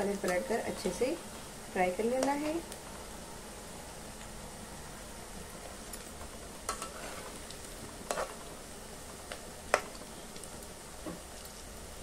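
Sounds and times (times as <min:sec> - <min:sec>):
food sizzling in hot oil: 0:00.0 - 0:04.2, 0:04.9 - 0:12.0.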